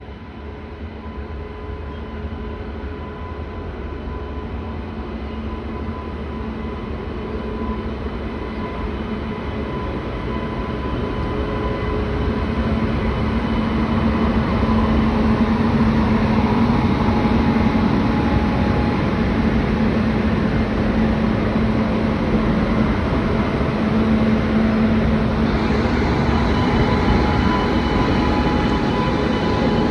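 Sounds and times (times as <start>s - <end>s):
electric locomotive hum: 0.0s - 29.9s
rumbling rail noise: 0.0s - 29.9s.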